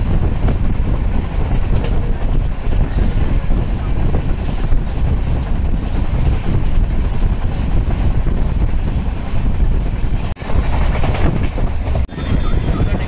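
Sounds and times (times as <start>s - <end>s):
train rumbling: 0.0s - 13.0s
wind buffeting microphone: 0.0s - 13.0s.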